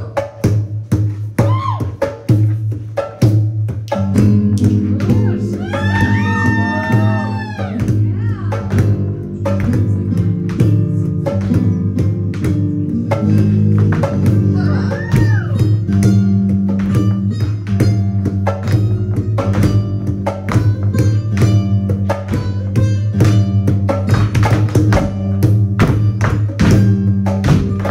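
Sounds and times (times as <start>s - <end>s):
flamenco guitar: 0.0s - 27.9s
sharp percussive strikes: 0.0s - 27.9s
low bass line: 3.9s - 27.9s.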